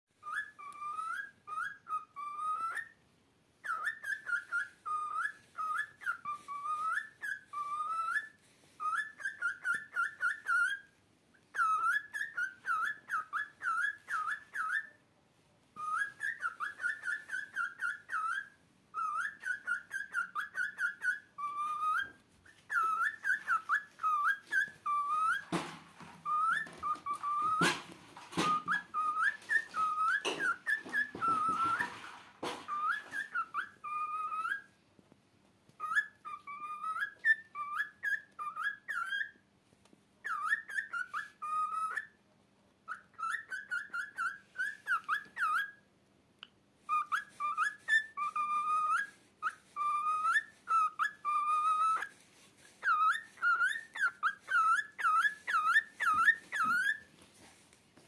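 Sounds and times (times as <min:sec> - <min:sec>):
cockatiel whistling: 0:00.2 - 0:03.0, 0:03.6 - 0:15.0, 0:15.7 - 0:34.8, 0:35.7 - 0:39.4, 0:40.2 - 0:42.2, 0:42.8 - 0:57.1.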